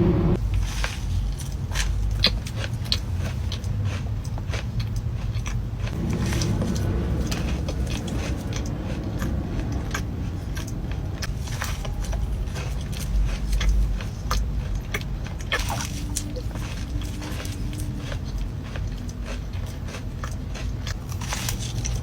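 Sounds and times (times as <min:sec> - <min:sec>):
low rumble: 0:00.0 - 0:22.0
chewing a crisp cookie: 0:00.4 - 0:22.0.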